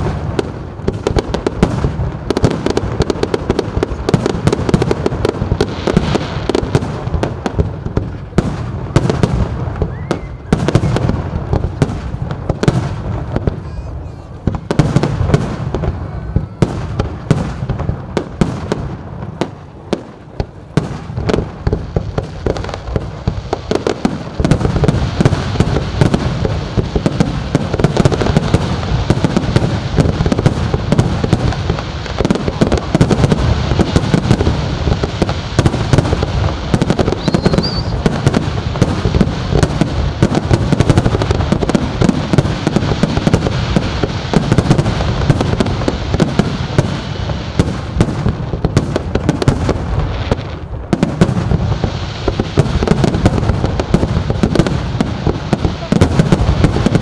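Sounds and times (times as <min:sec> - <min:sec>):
fireworks bursting with crackling: 0:00.0 - 0:57.0.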